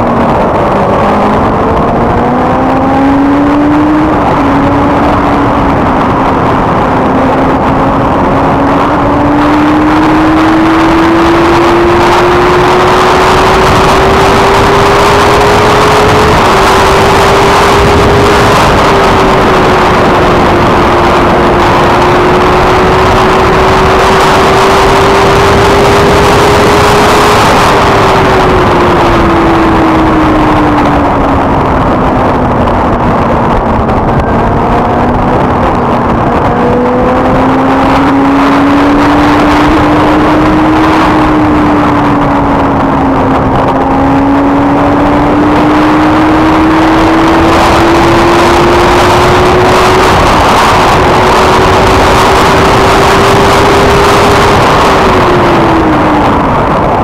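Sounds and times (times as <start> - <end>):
motorcycle engine at high speed: 0.0 - 57.0
wind rush on microphone: 0.0 - 57.0.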